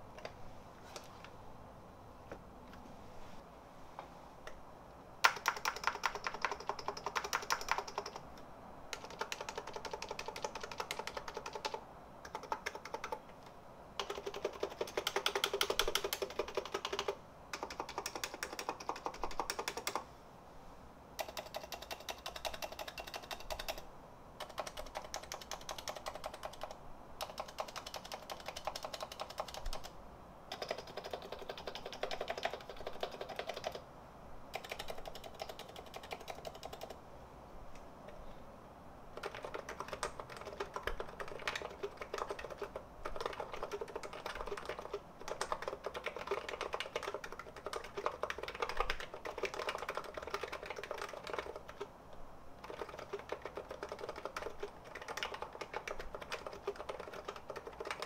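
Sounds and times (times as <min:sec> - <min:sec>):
fast keyboard typing: 0:05.2 - 0:13.3, 0:14.0 - 0:20.0, 0:21.2 - 0:33.8, 0:34.5 - 0:37.0, 0:39.1 - 0:51.9, 0:52.6 - 0:58.0.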